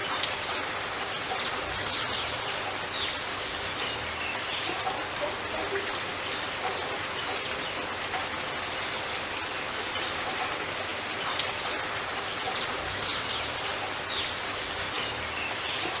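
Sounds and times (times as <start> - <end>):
sharp water drip: 0.0 - 16.0
steady rain falling: 0.0 - 16.0.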